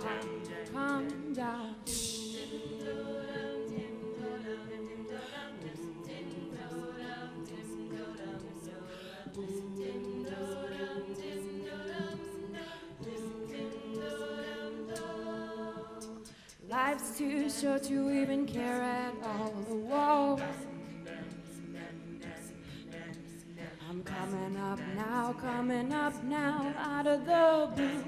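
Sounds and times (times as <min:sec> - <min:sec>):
a cappella group singing: 0:00.0 - 0:28.0
vocal percussion beat: 0:00.0 - 0:28.0.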